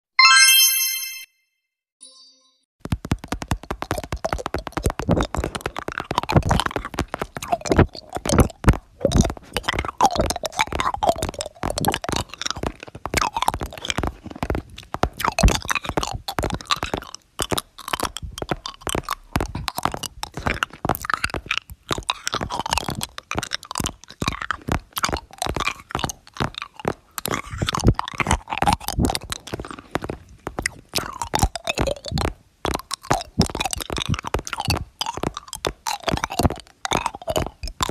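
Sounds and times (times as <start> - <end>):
crunchy chewing: 3.2 - 37.9.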